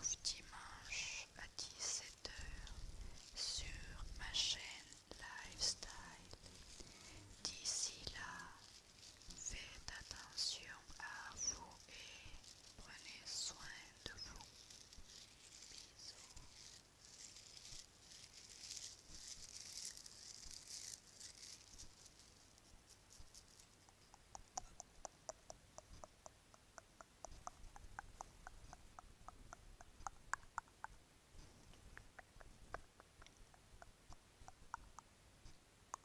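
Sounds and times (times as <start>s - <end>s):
soft hissing rustles: 0.0s - 36.0s.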